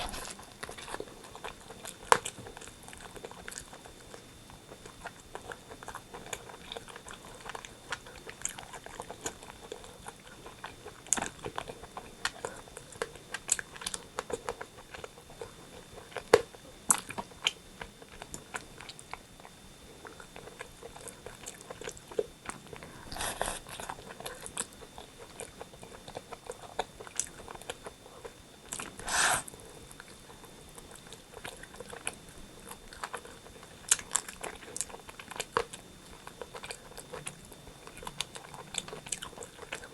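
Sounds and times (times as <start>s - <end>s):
close-miked chewing and crunching: 0.0s - 39.9s.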